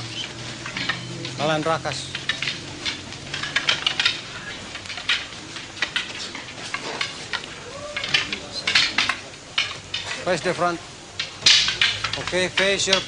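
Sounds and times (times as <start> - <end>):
sticks clacking: 0.0 - 13.0.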